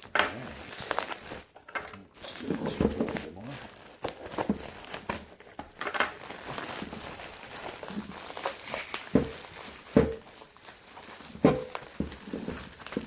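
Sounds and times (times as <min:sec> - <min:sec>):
cardboard box rustling: 0:00.0 - 0:13.0.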